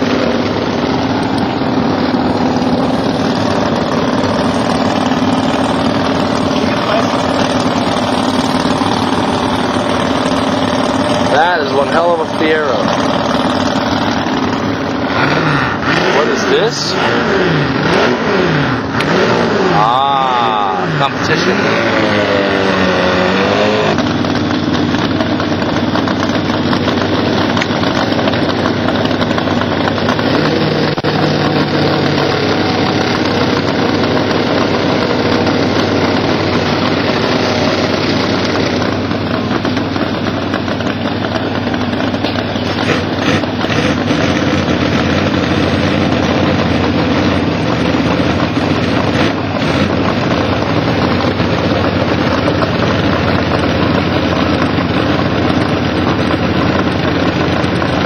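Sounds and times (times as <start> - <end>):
vehicle engine running loudly: 0.0 - 58.0.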